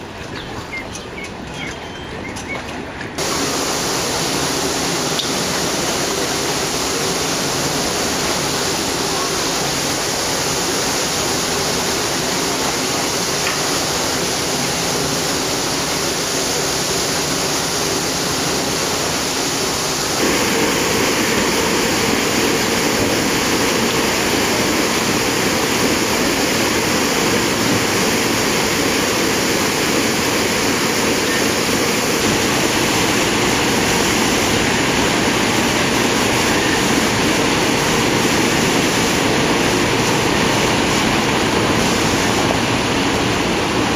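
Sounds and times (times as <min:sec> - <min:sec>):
paddle wheels churning water: 0:00.0 - 0:43.9.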